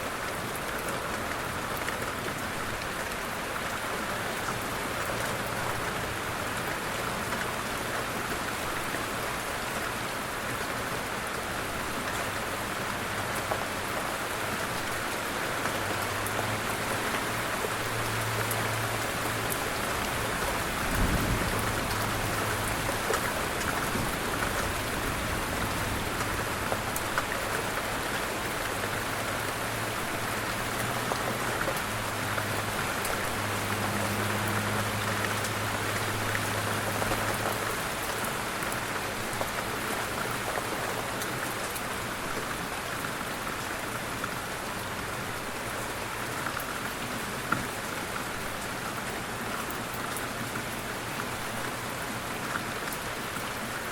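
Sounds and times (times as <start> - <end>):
light rain falling: 0.0 - 53.9.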